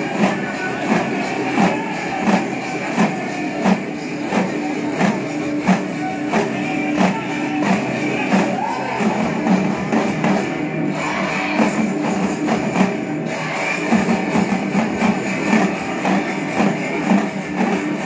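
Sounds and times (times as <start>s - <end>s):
loud dance music: 0.0s - 18.0s
steady drum beat: 0.0s - 18.0s.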